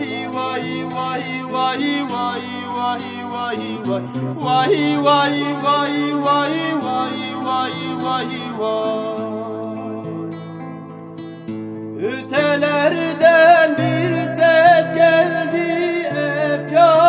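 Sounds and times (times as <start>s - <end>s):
plucked string folk melody: 0.0s - 17.0s.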